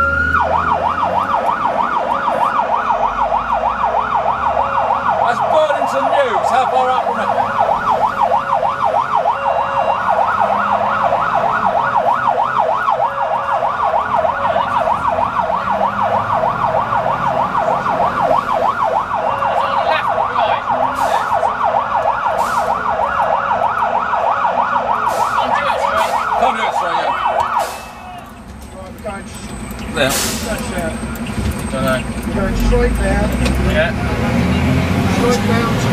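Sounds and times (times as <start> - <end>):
fire engine siren yelping: 0.0 - 35.9.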